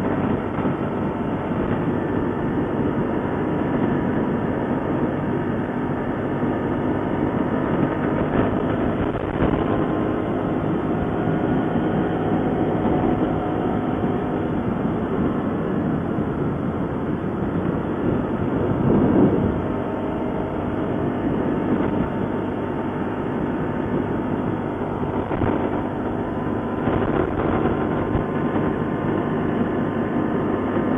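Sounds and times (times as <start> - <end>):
atv engine running: 0.0 - 30.9
wind noise: 0.0 - 30.9.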